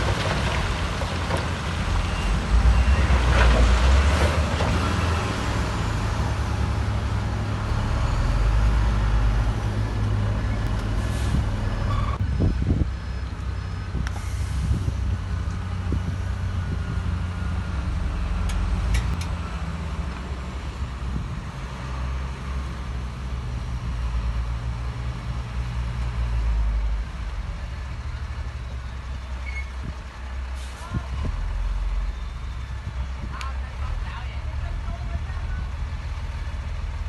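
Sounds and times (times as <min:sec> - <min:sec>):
heavy diesel machinery rumbling: 0:00.0 - 0:37.0.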